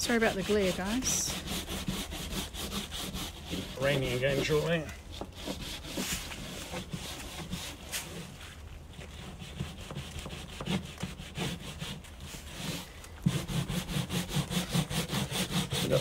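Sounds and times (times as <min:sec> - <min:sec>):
brush bristles rasping over wood: 0:00.0 - 0:16.0.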